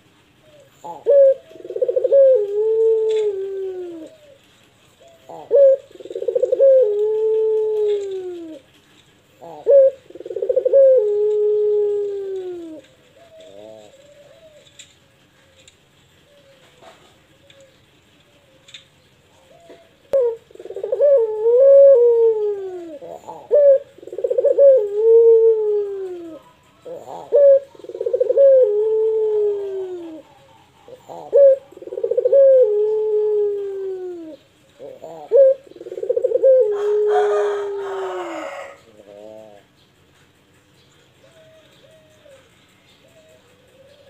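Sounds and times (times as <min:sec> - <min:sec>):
dove cooing: 0:00.0 - 0:44.0.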